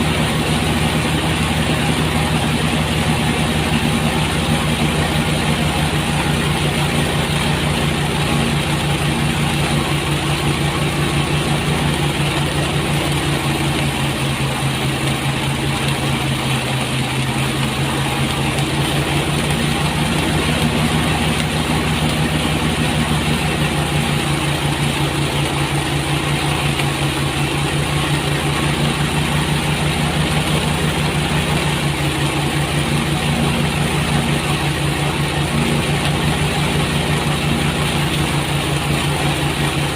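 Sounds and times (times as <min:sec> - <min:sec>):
rushing clatter of threshing: 0:00.0 - 0:39.9
threshing machine motor humming: 0:00.0 - 0:39.9.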